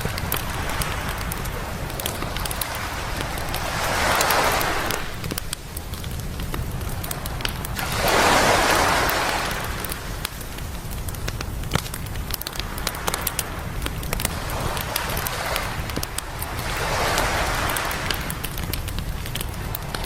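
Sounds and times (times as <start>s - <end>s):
ocean wave washing in: 0.0s - 10.7s, 12.4s - 18.6s
campfire crackling and popping: 0.0s - 20.0s
low surf rumble: 0.0s - 20.0s.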